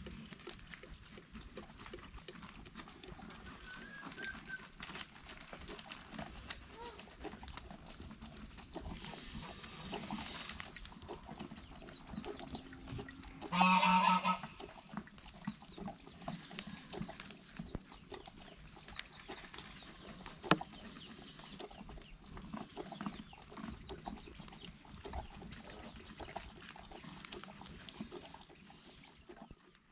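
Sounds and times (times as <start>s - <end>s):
dog eating from a bowl: 0.0s - 29.9s
farm animal call: 2.9s - 29.5s.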